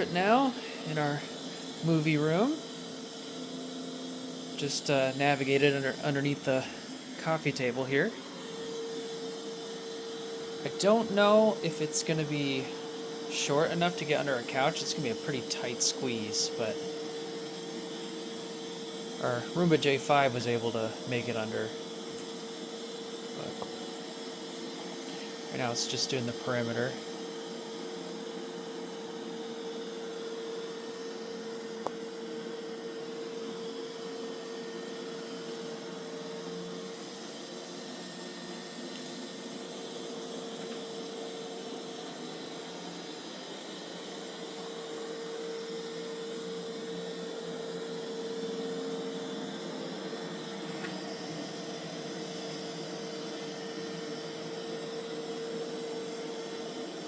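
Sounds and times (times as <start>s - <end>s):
robot vacuum running on carpet: 0.0s - 57.0s.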